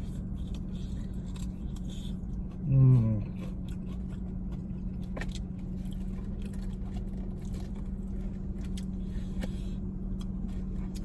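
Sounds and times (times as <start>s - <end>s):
car interior engine hum: 0.0s - 11.0s.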